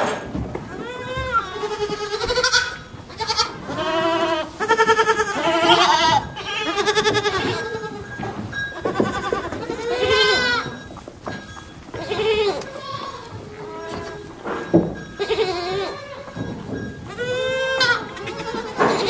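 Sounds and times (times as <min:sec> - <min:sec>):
lamb bleating: 0:00.7 - 0:10.9, 0:11.9 - 0:19.0.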